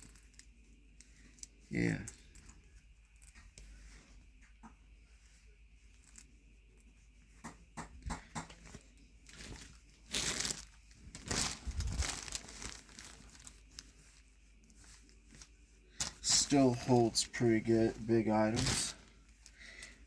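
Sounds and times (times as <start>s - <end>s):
fabric rustling and crinkling: 0.0s - 20.0s.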